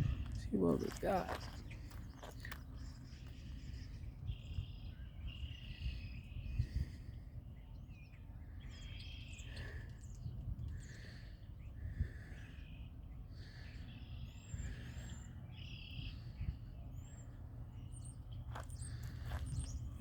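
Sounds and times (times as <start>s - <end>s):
birds chirping and singing: 0.0s - 20.0s
low rumbling background noise: 0.0s - 20.0s.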